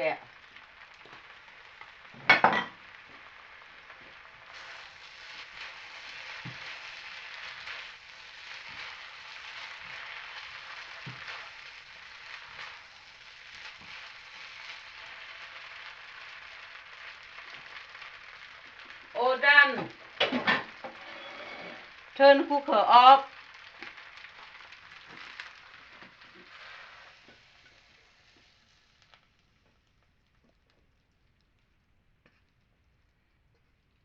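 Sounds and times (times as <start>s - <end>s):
rice sizzling in a pan: 0.0s - 34.0s.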